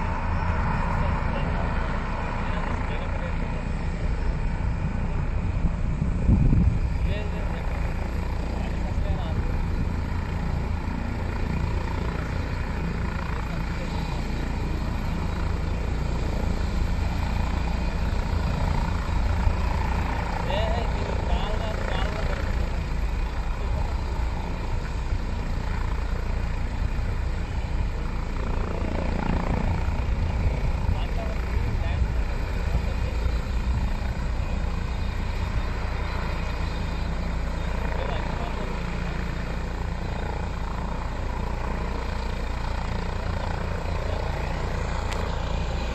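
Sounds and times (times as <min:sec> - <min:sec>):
helicopter rotor and turbine whir: 0:00.0 - 0:45.9.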